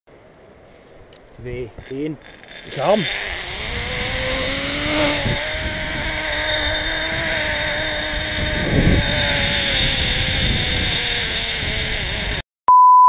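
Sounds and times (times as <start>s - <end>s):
wind noise: 1.0s - 12.4s
pulley whining on zipline cable: 1.7s - 12.5s.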